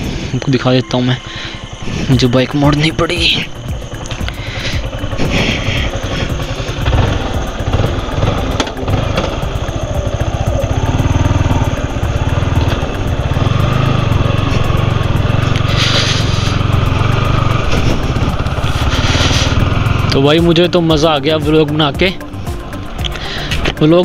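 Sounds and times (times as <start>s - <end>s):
motorcycle engine running: 0.0s - 24.0s
engine knocks: 1.6s - 24.0s.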